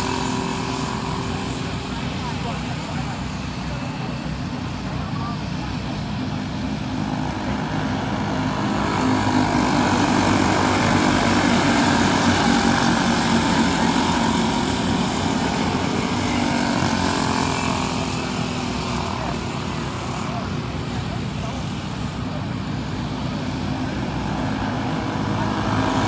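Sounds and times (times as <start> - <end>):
race car engines: 0.0 - 26.0.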